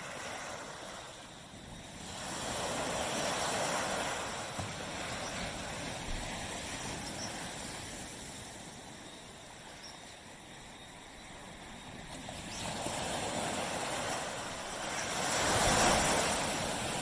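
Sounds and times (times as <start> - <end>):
wave washing on beach: 0.0 - 9.5, 10.3 - 17.0.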